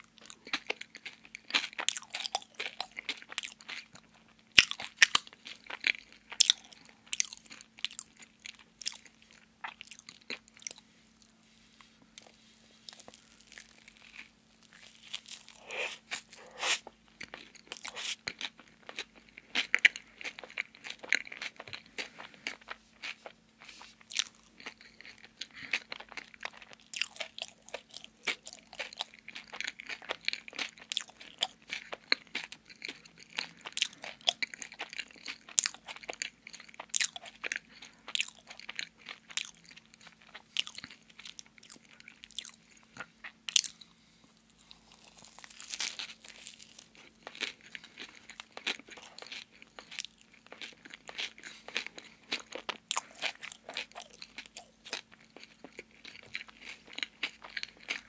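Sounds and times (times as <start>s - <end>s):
chewing and biting food: 0.0s - 11.3s, 12.1s - 58.0s.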